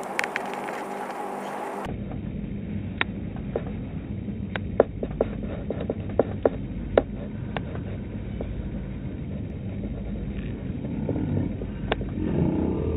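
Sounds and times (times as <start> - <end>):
car road and engine noise: 0.0 - 12.9.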